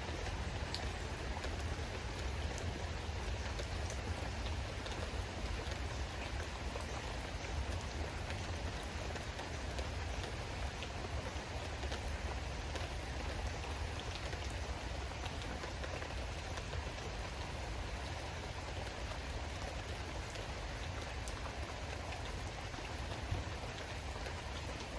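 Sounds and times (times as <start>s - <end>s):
raindrops ticking on surfaces: 0.0s - 24.9s
steady rain falling: 0.0s - 24.9s.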